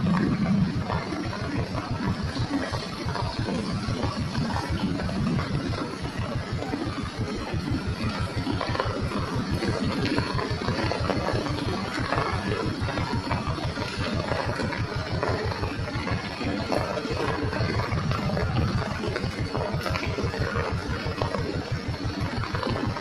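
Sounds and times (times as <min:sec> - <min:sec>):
rapid low pulsing: 0:00.0 - 0:23.0
steady rain falling: 0:00.0 - 0:23.0.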